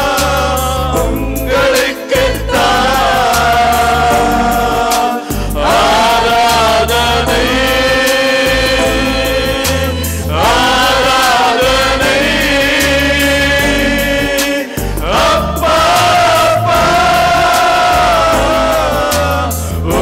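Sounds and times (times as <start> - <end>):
instrumental backing with bass: 0.0 - 20.0
man singing into a microphone: 0.0 - 20.0.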